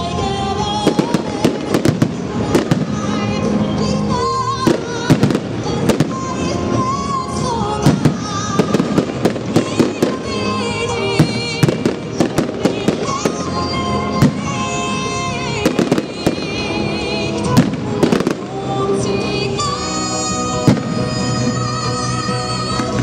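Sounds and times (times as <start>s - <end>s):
fireworks bangs and cracks: 0.0s - 21.7s
song with singer: 0.0s - 23.0s.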